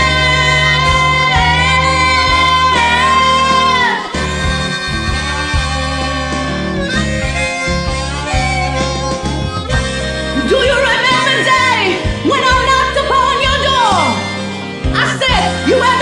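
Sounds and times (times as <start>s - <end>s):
blues harmonica solo: 0.0s - 16.0s
slow blues band backing: 0.0s - 16.0s.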